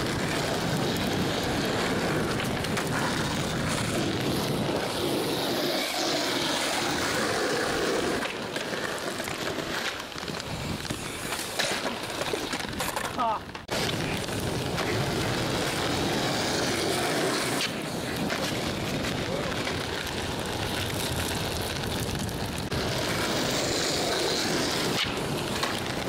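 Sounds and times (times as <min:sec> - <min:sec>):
skateboard clacks: 0:00.0 - 0:26.0
skateboard wheels rolling on asphalt: 0:00.0 - 0:26.0.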